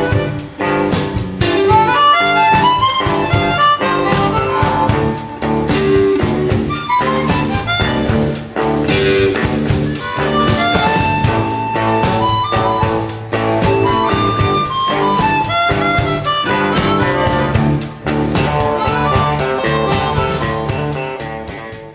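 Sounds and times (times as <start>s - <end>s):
harmonica: 0.0s - 21.6s
blues guitar with steady beat: 0.0s - 21.9s.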